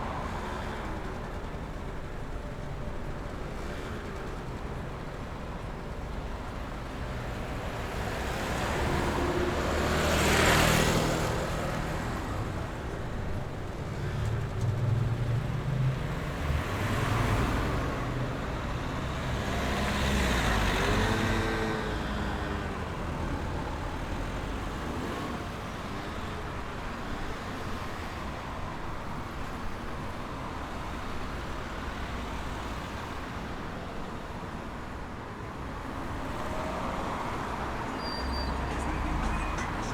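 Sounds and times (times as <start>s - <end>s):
road traffic rumble: 0.0s - 39.9s
vehicles passing by: 0.0s - 39.9s.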